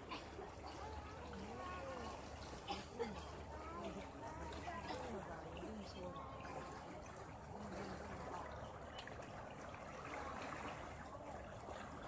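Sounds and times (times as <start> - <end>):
lake water splashing: 0.0 - 12.0.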